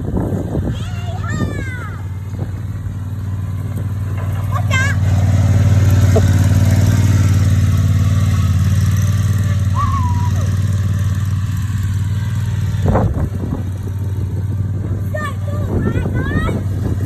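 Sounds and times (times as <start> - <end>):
lawnmower engine humming: 0.0 - 17.0.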